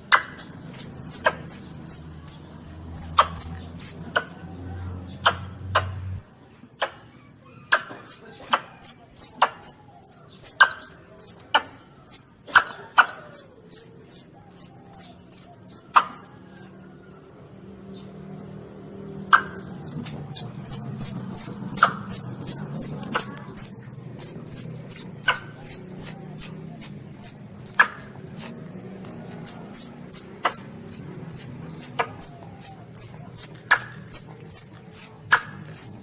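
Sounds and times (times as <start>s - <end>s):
civet kitten squeaking: 0.0s - 4.0s, 7.6s - 16.7s, 19.4s - 28.6s, 29.4s - 36.0s.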